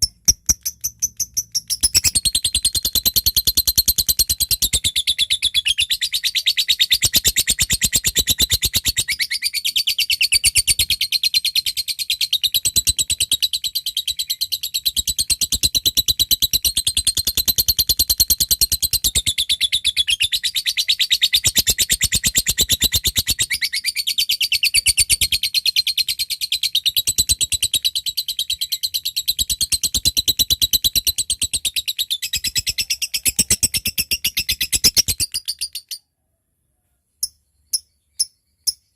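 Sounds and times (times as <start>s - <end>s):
lovebird chattering: 0.0s - 36.0s.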